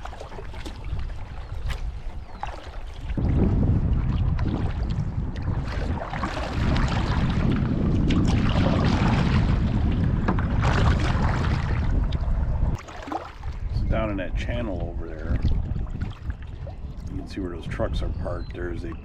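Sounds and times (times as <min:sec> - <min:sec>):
paddle splashing water: 0:00.0 - 0:13.8, 0:15.3 - 0:17.3
wind buffeting microphone: 0:00.0 - 0:19.0.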